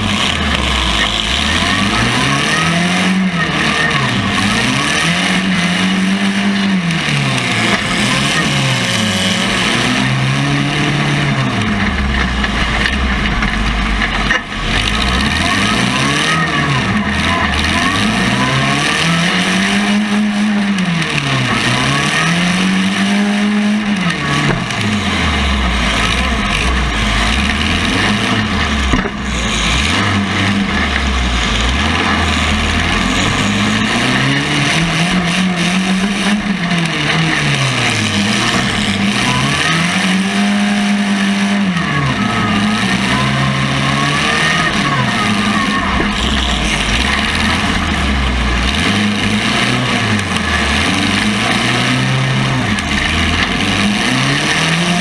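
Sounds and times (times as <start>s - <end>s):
race car engine revving: 0.0s - 55.0s
road and wind noise: 0.0s - 55.0s.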